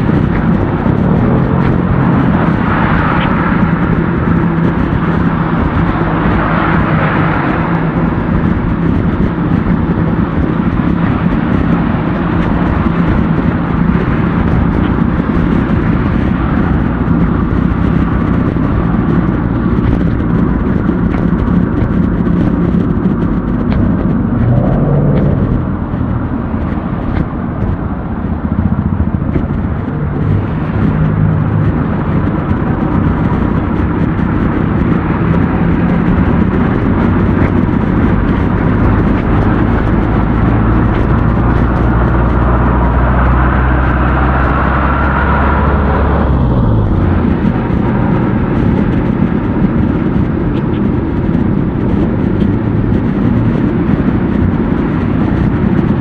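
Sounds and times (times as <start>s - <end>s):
road noise: 0.0s - 56.0s
vehicle engines humming: 0.0s - 56.0s.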